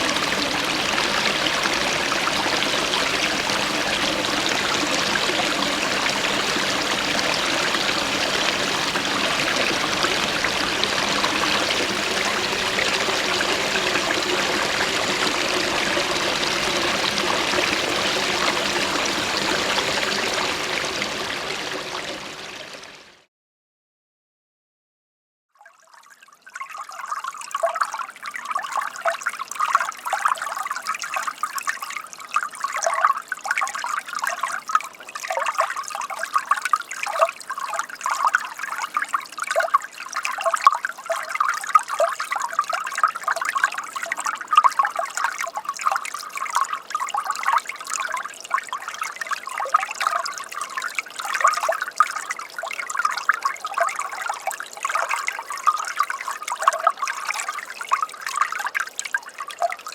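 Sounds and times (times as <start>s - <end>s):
water trickling and gurgling: 0.0s - 23.3s, 25.6s - 59.9s.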